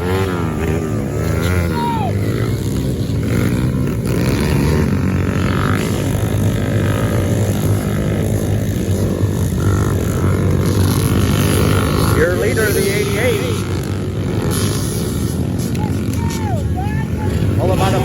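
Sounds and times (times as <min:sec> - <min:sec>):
quad bike engines droning: 0:00.0 - 0:18.0.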